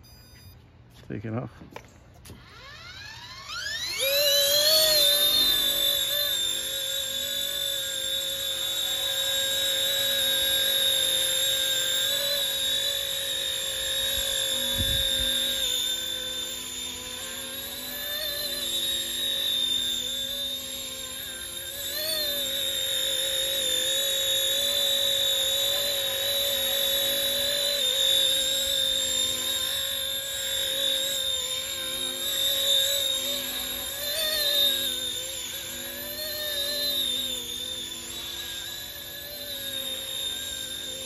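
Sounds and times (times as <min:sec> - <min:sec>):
model helicopter rotors whining: 0:01.7 - 0:41.0.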